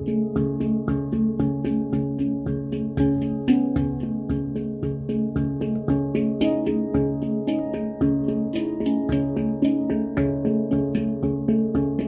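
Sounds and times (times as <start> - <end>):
handpan notes ringing: 0.0 - 12.0.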